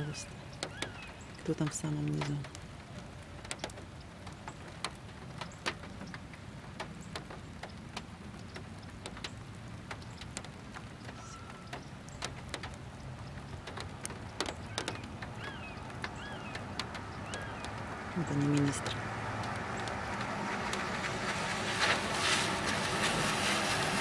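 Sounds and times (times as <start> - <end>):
raindrops dripping and ticking: 0.0 - 24.0.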